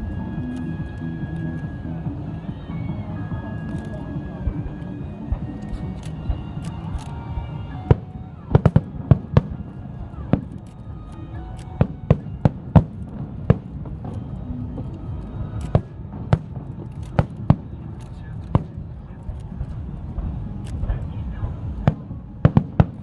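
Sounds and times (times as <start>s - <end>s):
low background rumble: 0.0s - 23.0s
fireworks bangs: 4.4s - 23.0s.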